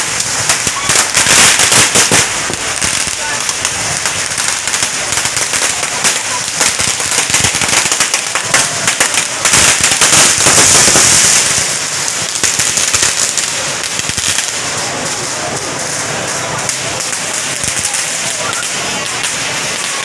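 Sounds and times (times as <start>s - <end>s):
firecrackers crackling: 0.0s - 20.0s
steady noise: 0.0s - 20.0s.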